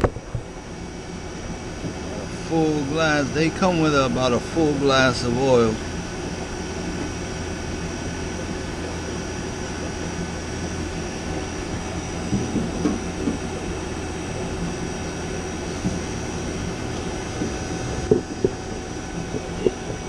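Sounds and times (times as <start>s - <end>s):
vacuum pump running: 0.0s - 20.0s.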